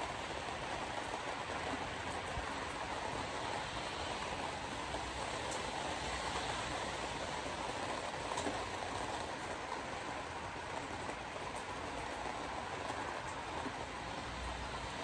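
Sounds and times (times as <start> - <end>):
heavy rain: 0.0 - 15.0
tyres on wet road: 0.0 - 15.0.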